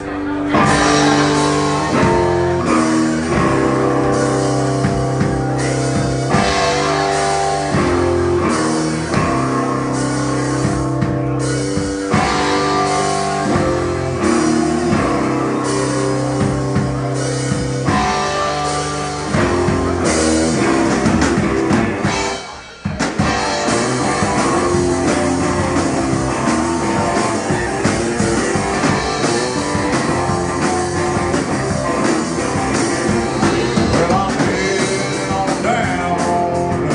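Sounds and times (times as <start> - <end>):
rock band playing: 0.0 - 36.9.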